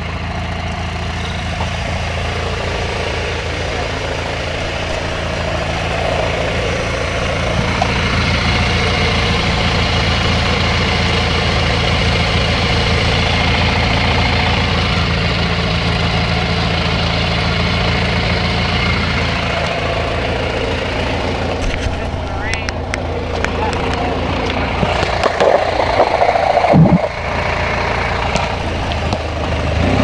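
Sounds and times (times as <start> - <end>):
lawn mower engine running: 0.0 - 30.0.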